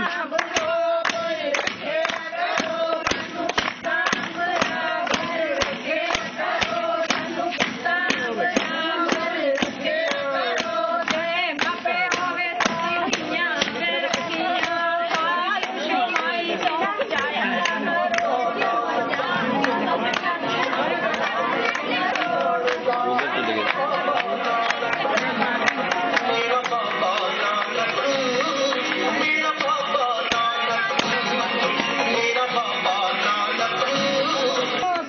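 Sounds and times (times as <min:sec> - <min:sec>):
hand claps: 0:00.0 - 0:35.0
women singing in chorus: 0:00.0 - 0:35.0.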